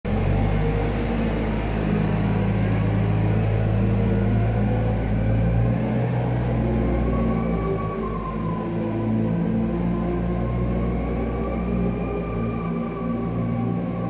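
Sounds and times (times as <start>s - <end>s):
wheel loader engine running: 0.1s - 14.0s.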